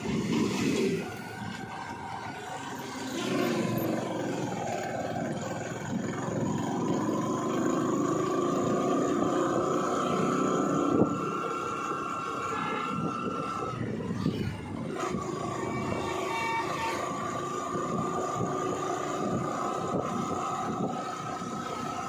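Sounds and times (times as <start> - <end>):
vehicle engine and road noise: 0.0 - 22.0
whine rising in pitch: 0.0 - 22.0.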